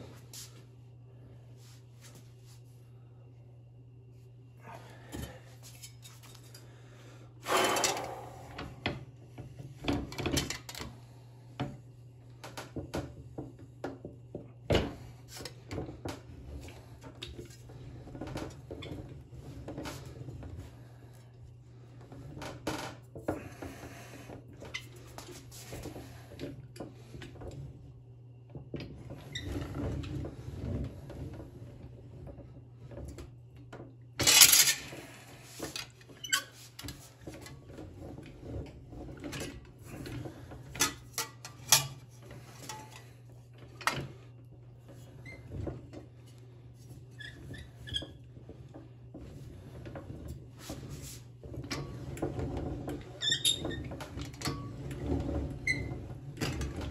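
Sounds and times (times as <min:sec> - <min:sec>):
steady low hum: 0:00.0 - 0:53.2.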